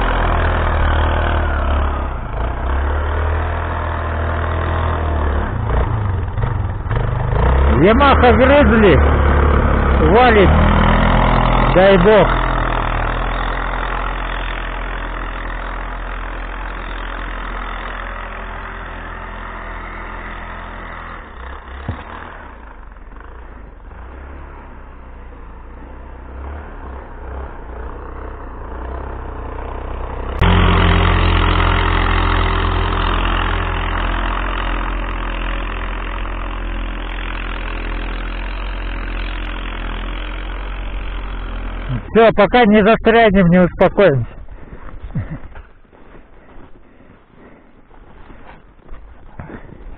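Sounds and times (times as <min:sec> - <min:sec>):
quad bike engine under load: 0:00.0 - 0:49.9.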